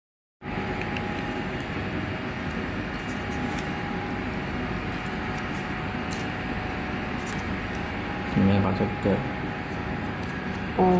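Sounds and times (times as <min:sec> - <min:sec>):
mechanical hum with whine: 0:00.4 - 0:10.9.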